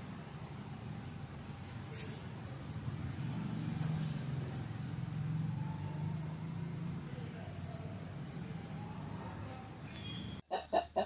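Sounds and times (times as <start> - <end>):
vehicle engine hum: 0.0 - 10.4.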